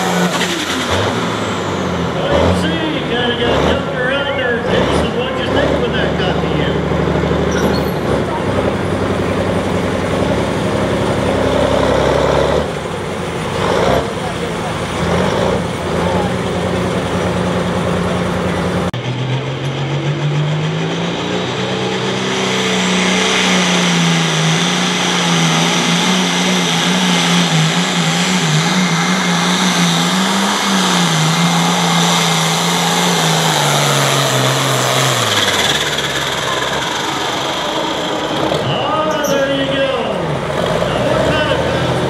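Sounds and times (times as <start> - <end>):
another tractor engine running: 0.0 - 42.0
diesel engine at full throttle: 0.0 - 42.0.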